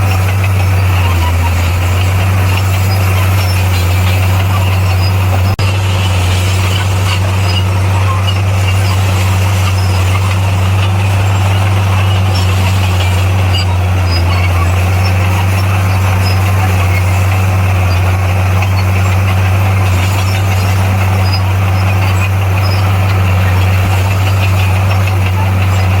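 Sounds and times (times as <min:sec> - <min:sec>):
bulldozer diesel engine humming: 0:00.0 - 0:26.0.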